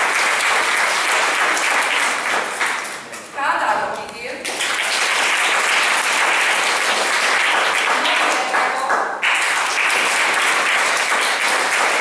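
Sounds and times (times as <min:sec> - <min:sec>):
audience applauding: 0:00.0 - 0:03.1, 0:04.4 - 0:12.0.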